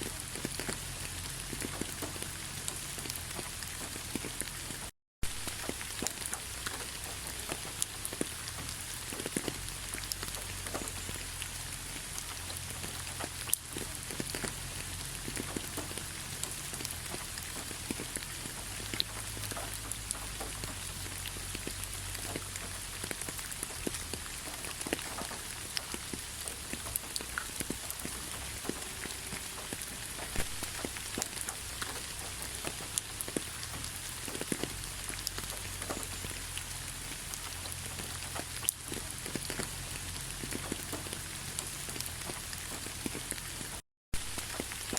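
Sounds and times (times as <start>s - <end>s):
rain hissing: 0.0s - 44.9s
raindrops pattering on surfaces: 0.0s - 44.9s.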